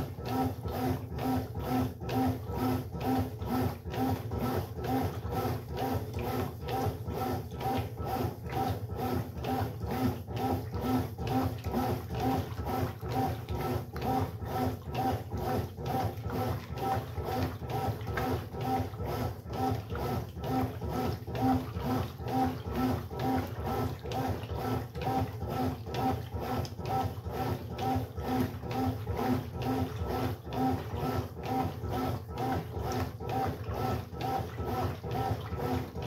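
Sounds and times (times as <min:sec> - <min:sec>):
washing machine motor pulsing hum: 0:00.0 - 0:36.0.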